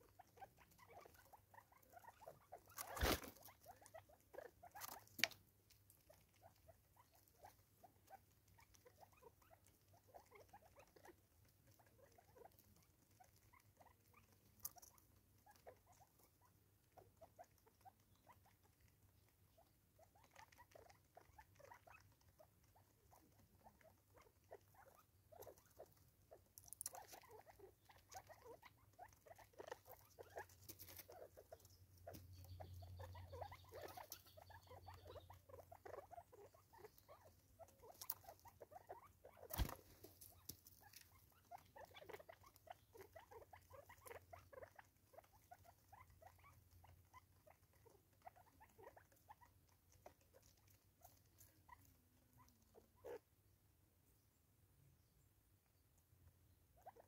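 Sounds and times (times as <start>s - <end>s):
birds pecking on wood: 0.0s - 52.6s.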